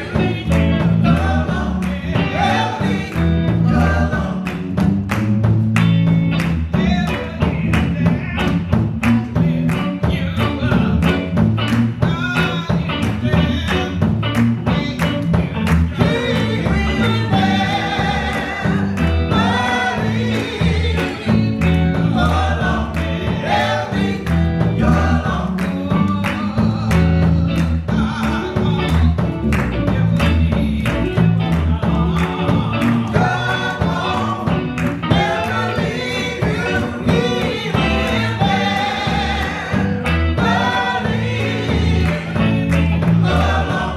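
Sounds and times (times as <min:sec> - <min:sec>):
gospel choir singing: 0:00.0 - 0:07.6, 0:09.2 - 0:43.9
band accompaniment with beat: 0:00.0 - 0:43.9.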